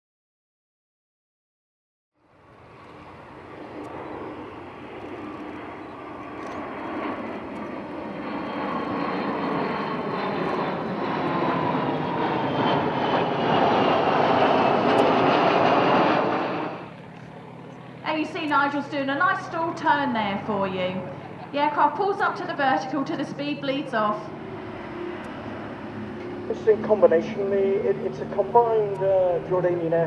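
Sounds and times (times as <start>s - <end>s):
jet aircraft flying overhead: 2.2s - 30.0s.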